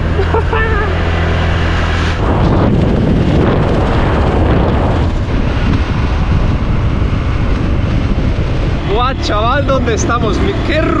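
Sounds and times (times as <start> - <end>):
motorbike engine: 0.0 - 11.0
wind buffeting microphone: 0.0 - 11.0.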